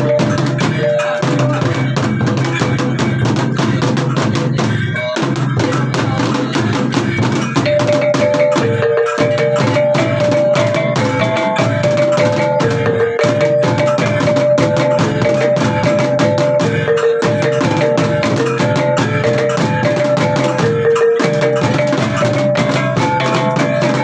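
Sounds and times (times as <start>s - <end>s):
drum and wood strikes: 0.0s - 24.0s
ringing pitched notes: 0.0s - 24.0s.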